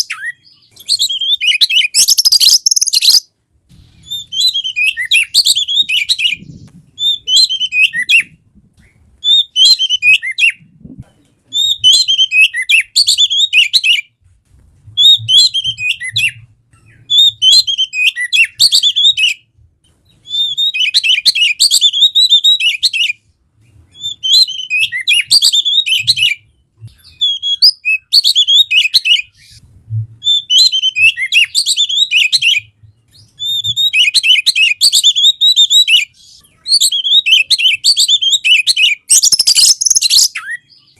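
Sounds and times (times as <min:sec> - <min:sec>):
songbird whistles and chirps: 0:00.0 - 0:10.7, 0:11.5 - 0:14.2, 0:15.0 - 0:29.6, 0:30.2 - 0:40.9.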